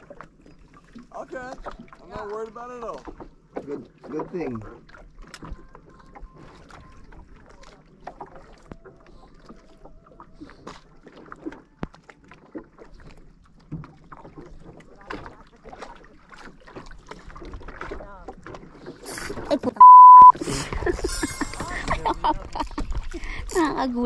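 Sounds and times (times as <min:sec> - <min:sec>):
waves lapping against hull: 0:00.0 - 0:24.0.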